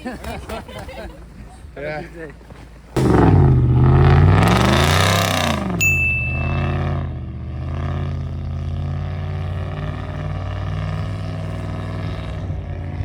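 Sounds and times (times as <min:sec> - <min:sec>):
vehicle engine running: 0:02.2 - 0:13.0.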